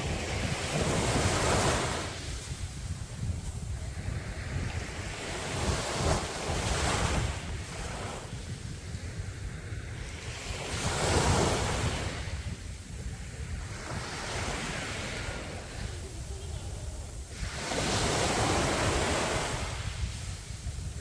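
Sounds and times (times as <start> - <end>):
waves breaking on sand: 0.0 - 21.0
wind rumble on microphone: 0.0 - 21.0.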